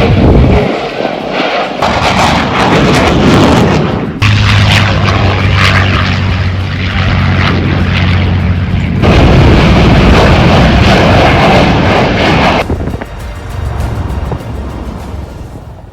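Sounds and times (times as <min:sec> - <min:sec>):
aircraft engine drone: 0:00.0 - 0:15.9
rushing jet engine noise: 0:00.0 - 0:15.9.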